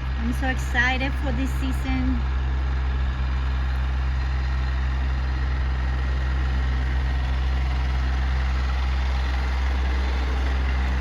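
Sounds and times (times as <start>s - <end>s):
tiller engine droning: 0.0s - 11.0s.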